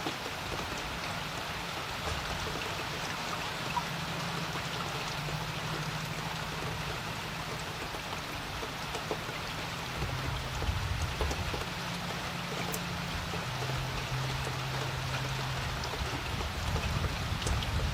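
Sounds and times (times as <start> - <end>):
rain falling on a creek: 0.0 - 17.9.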